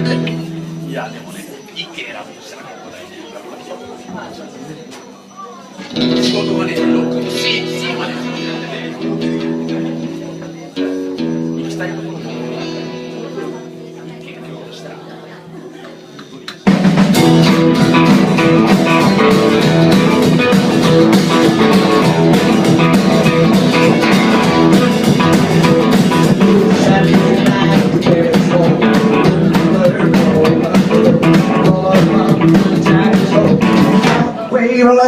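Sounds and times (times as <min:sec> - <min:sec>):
live band music led by guitar: 0:00.0 - 0:01.5, 0:05.8 - 0:34.8.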